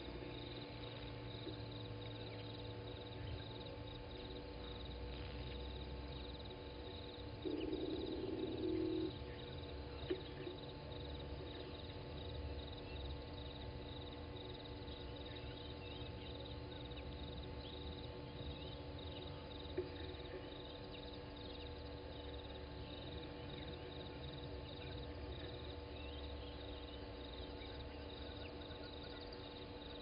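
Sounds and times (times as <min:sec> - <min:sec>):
insects chirping trills: 0:00.0 - 0:30.0
steady low hum: 0:00.0 - 0:30.0.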